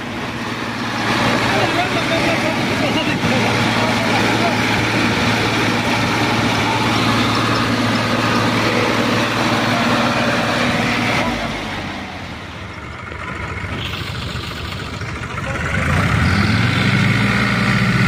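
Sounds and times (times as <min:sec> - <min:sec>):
diesel tractor engines idling: 0:00.0 - 0:18.0.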